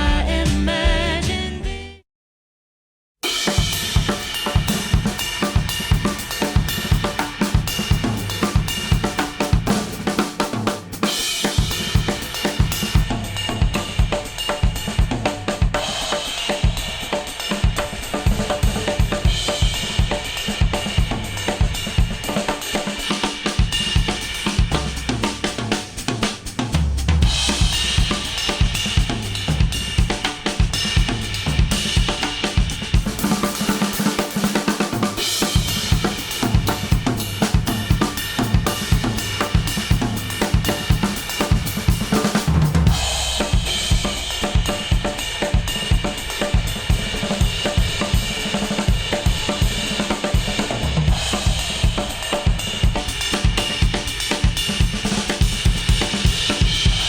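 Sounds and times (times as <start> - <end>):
instrumental music with drum beat: 3.2 - 57.0.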